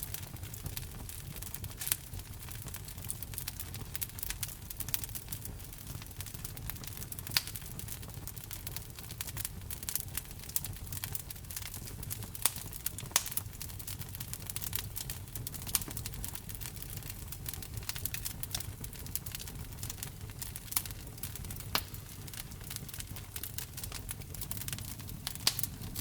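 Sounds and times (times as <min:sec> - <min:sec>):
sharp pops of fire: 0:00.0 - 0:26.0
wood fire crackling: 0:00.0 - 0:26.0.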